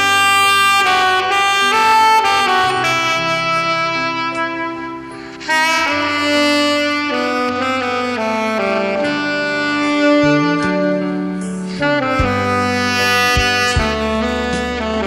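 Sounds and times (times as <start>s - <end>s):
solo saxophone melody: 0.0s - 15.0s.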